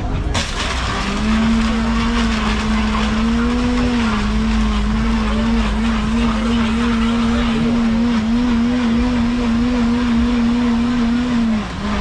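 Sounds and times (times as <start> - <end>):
contents churning in blender: 0.4 - 12.0
blender motor whining: 0.5 - 12.0.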